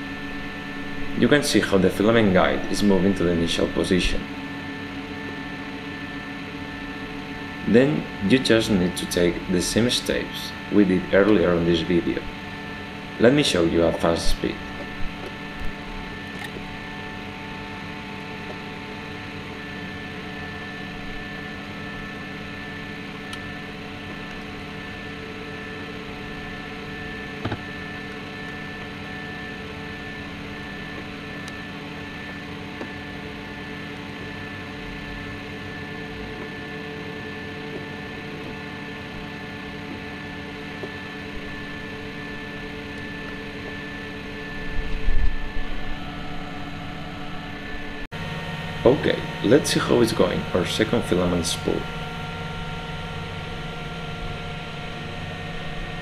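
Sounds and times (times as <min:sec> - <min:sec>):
filament extruder humming: 0:00.0 - 0:56.0.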